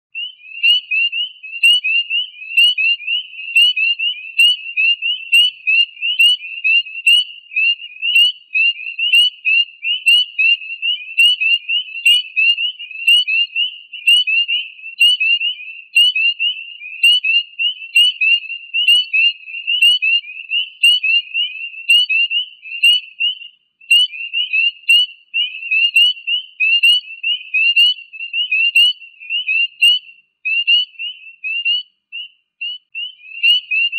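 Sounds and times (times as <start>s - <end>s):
chorus of frogs peeping: 0.1s - 33.9s.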